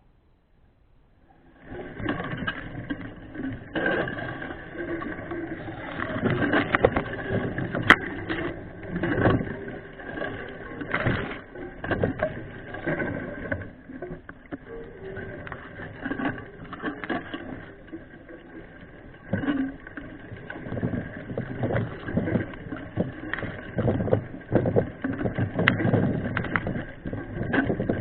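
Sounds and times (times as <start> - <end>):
bike rattling on rough trail: 1.6 - 28.0.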